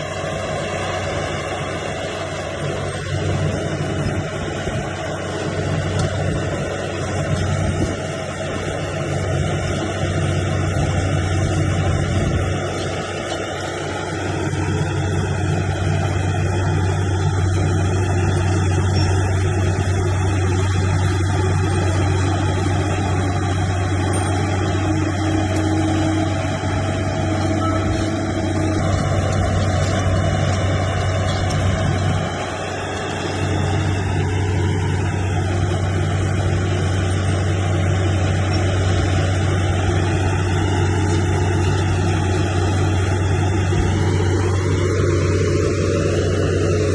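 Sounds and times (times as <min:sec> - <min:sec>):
heavy diesel engine droning: 0:00.0 - 0:46.9.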